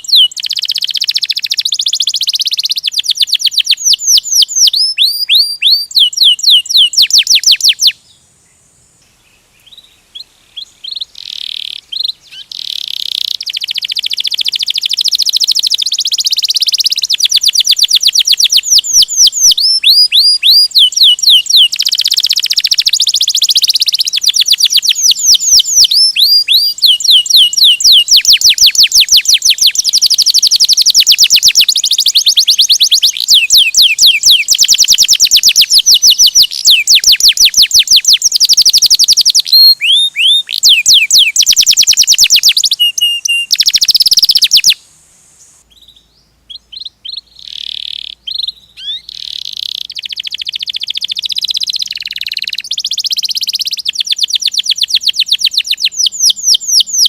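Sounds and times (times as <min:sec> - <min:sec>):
canary singing trills: 0:00.0 - 0:08.6, 0:09.2 - 0:44.8, 0:45.6 - 0:57.0.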